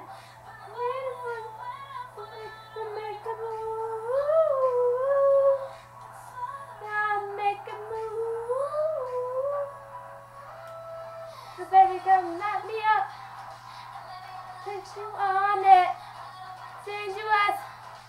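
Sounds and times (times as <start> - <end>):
girl singing wordless melody: 0.0 - 18.0.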